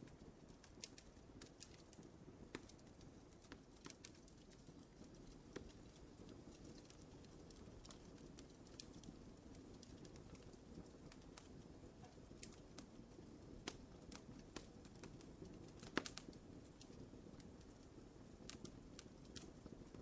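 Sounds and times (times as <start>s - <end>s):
soft rumble of burning: 0.0s - 20.0s
wood fire crackling: 0.0s - 20.0s.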